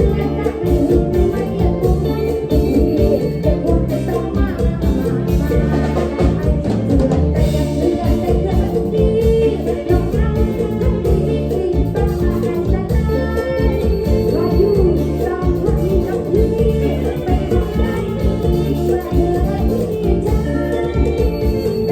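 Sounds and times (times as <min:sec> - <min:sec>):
drum beat: 0:00.0 - 0:21.9
electric bass line: 0:00.0 - 0:21.9
live band music: 0:00.0 - 0:21.9
person singing: 0:00.0 - 0:21.9.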